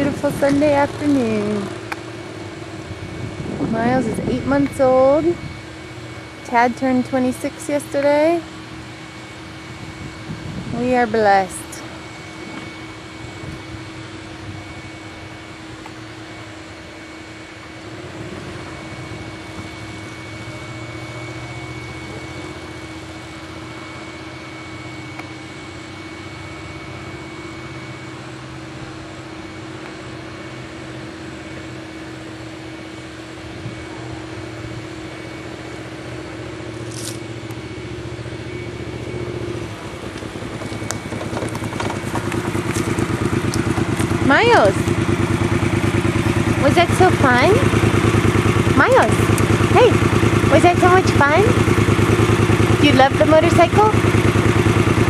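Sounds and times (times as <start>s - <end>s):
distant motorcycle engine: 0.0s - 17.0s, 17.6s - 55.0s
steady mechanical hum: 0.0s - 55.0s.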